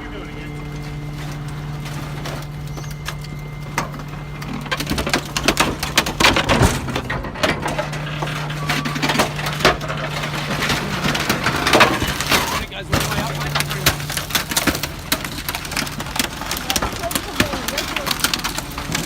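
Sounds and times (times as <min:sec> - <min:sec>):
garbage truck engine humming: 0:00.0 - 0:19.0
rubbish cracking and crunching: 0:00.0 - 0:19.0.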